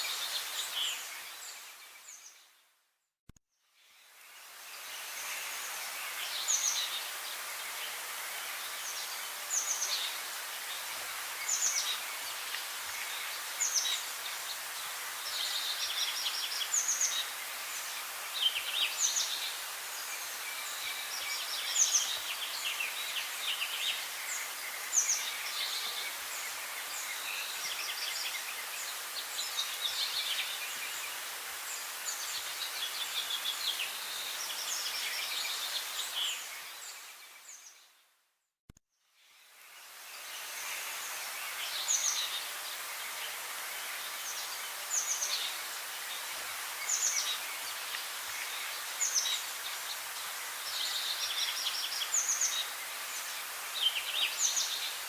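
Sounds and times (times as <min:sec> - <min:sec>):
steady background hiss: 0:00.0 - 0:02.4, 0:03.8 - 0:37.8, 0:39.2 - 0:55.0.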